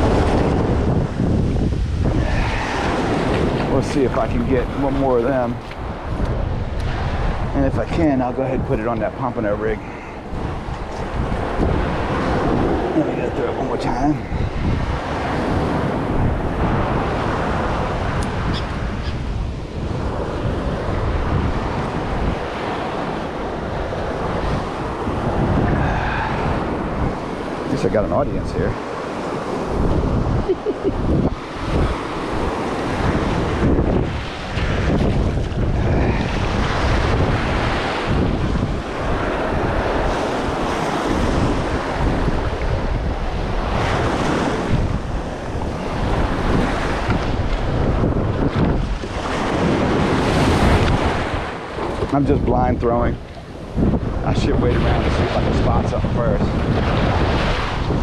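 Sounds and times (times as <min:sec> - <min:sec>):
water noise: 0:00.0 - 0:58.0
wind buffeting microphone: 0:00.0 - 0:58.0.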